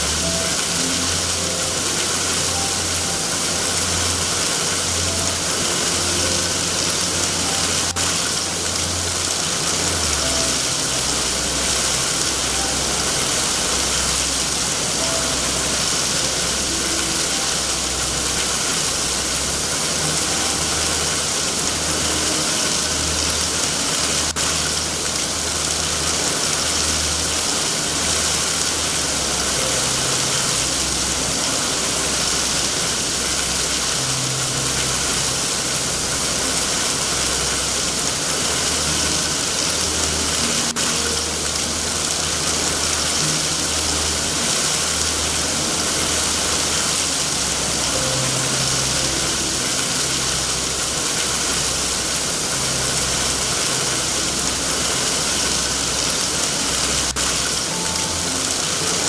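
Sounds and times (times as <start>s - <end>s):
heavy rain hiss: 0.0s - 59.0s
low uneven rumble: 0.0s - 59.0s.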